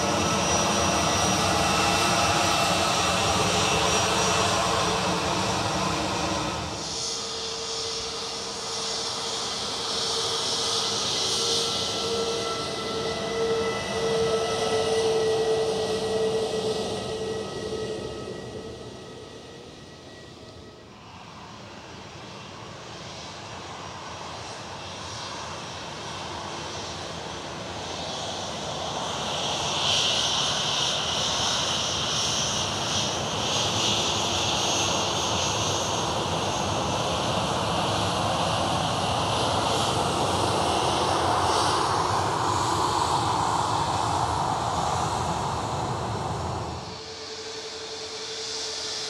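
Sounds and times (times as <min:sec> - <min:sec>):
jet engines whining and rumbling: 0:00.0 - 0:49.0.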